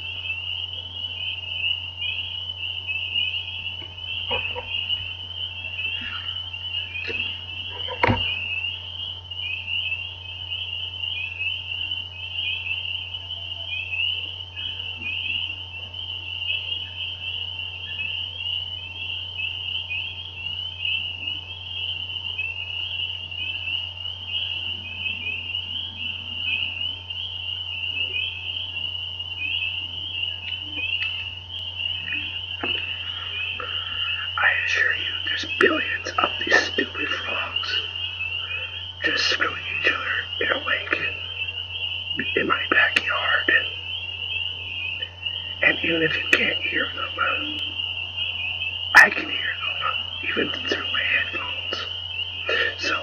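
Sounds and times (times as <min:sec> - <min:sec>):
frogs chorus: 0:00.0 - 0:53.0
steady low hum: 0:00.0 - 0:53.0.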